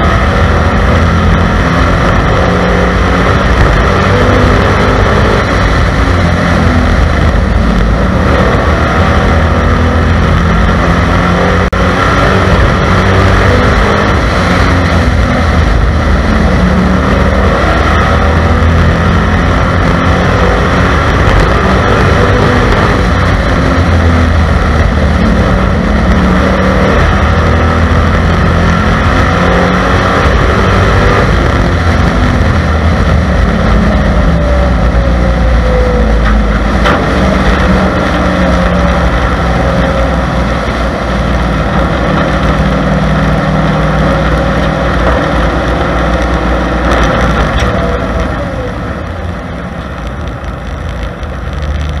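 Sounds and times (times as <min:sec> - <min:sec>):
race car engine at speed: 0:00.0 - 0:52.0.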